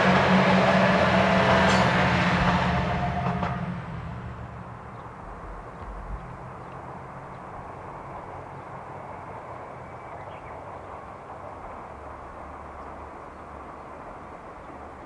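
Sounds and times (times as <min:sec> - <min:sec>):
distant diesel railcar rumbling: 0:00.0 - 0:15.0.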